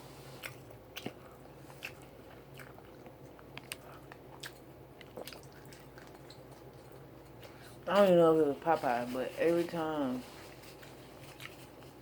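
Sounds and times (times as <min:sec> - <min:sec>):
chewing crunchy food: 0:00.2 - 0:08.1, 0:10.3 - 0:12.0.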